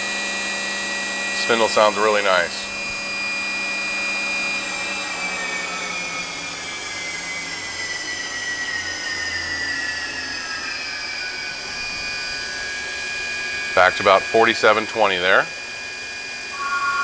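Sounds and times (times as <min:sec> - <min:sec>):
machine spindle high whine: 0:00.0 - 0:11.6, 0:12.2 - 0:17.0.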